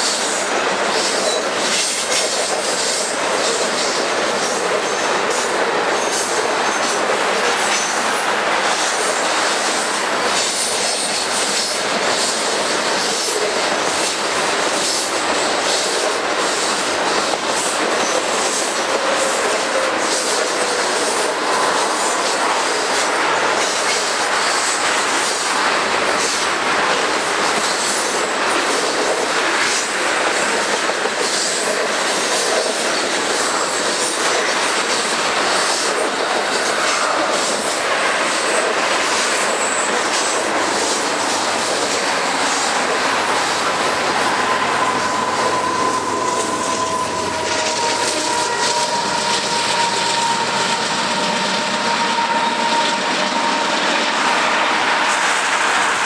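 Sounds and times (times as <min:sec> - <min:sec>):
wheels clicking on rails: 0:00.0 - 0:51.5
freight train rolling past: 0:00.0 - 0:56.0.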